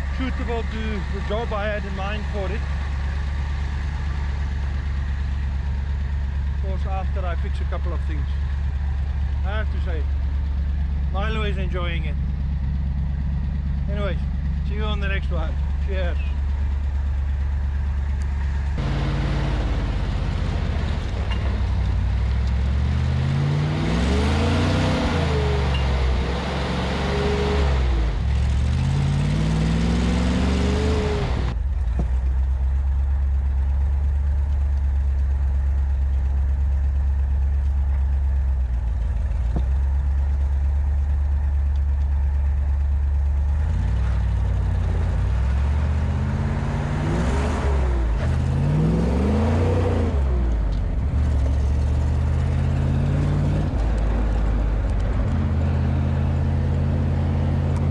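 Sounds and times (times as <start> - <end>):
jeep engine running: 0.0 - 57.9.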